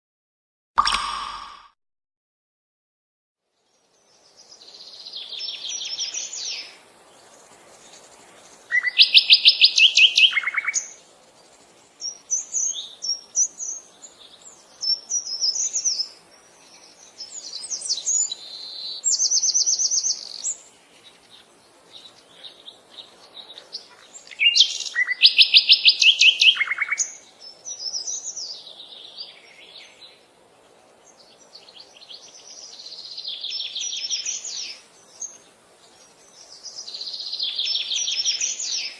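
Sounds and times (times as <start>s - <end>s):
songbirds trilling and chirping: 3.6s - 38.9s.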